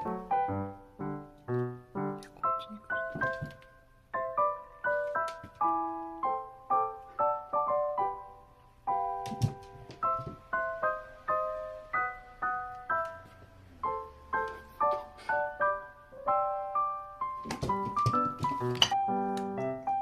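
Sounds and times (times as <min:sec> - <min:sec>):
piano melody: 0:00.0 - 0:20.0.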